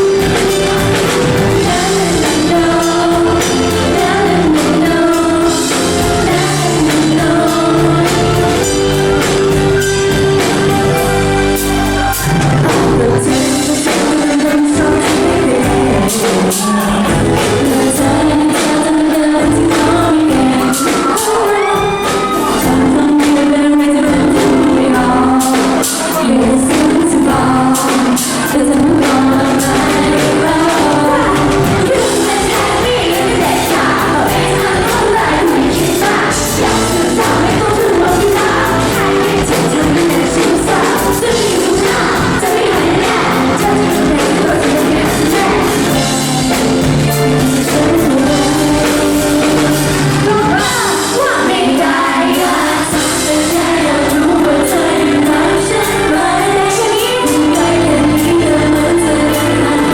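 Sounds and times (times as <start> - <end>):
women singing pop song: 0.0 - 11.0, 12.2 - 59.9
backing music with drum beat: 0.0 - 59.9.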